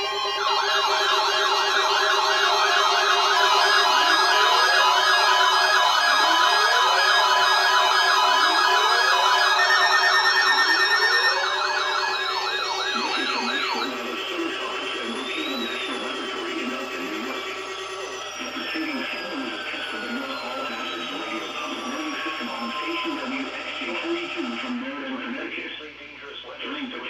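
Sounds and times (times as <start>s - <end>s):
electronic warbling alert tones: 0.0s - 24.8s.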